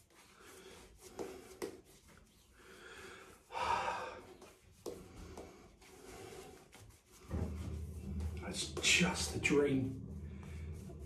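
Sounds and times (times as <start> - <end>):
brush strokes on scalp: 0.0 - 2.6, 4.2 - 11.0
person breathing: 0.2 - 8.4, 10.1 - 11.0.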